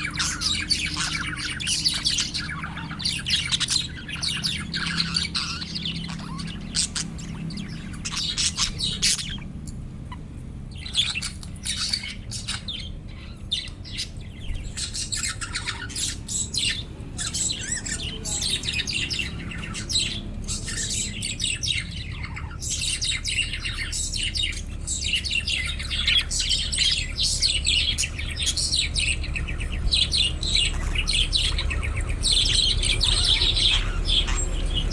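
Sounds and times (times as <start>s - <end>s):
budgies chirping and warbling: 0.0s - 34.9s.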